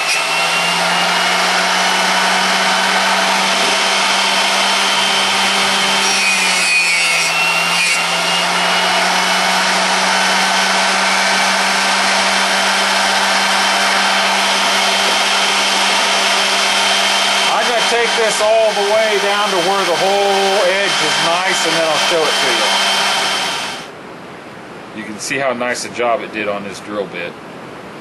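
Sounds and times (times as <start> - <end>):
drill bit grinding with rasping hiss: 0.0 - 23.9
grinding wheel motor hum: 0.0 - 23.9.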